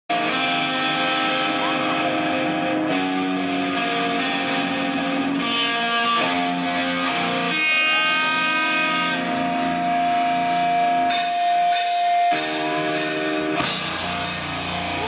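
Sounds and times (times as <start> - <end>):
electric guitar chords: 0.1 - 15.0.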